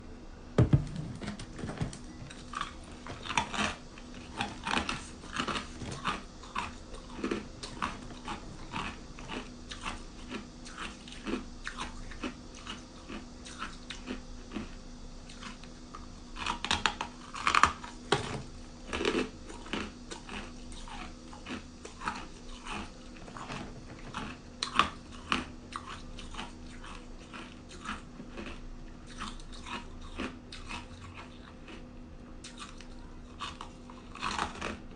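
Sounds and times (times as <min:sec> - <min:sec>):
person chewing ice crunching: 0:02.3 - 0:15.7, 0:16.3 - 0:34.9.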